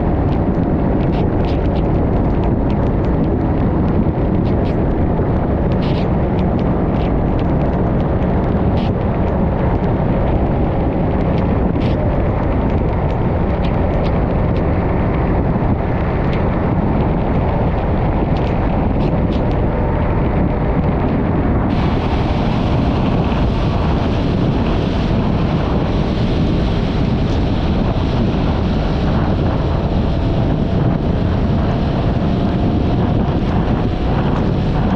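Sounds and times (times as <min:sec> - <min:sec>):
wind rushing over microphone: 0:00.0 - 0:34.9.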